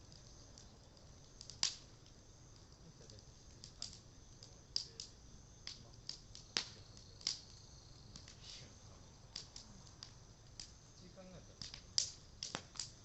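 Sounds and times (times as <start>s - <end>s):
bonfire crackling and popping: 0.0s - 13.0s.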